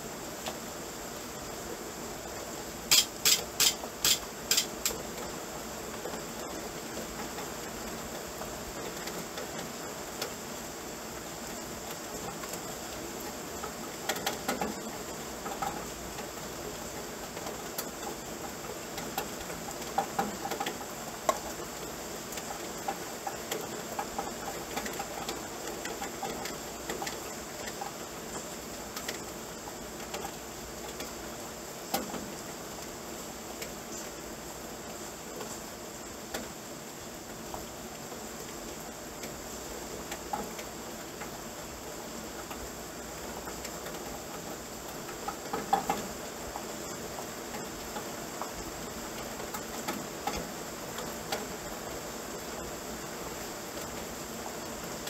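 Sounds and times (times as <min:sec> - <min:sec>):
rain hiss: 0:00.0 - 0:55.0
ticks of raindrops: 0:00.0 - 0:55.0.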